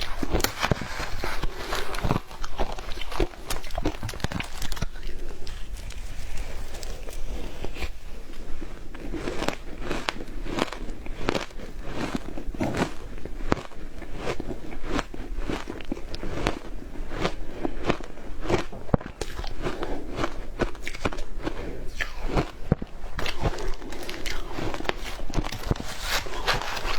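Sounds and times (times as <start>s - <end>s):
crunchy ice being chewed: 0.0s - 26.9s.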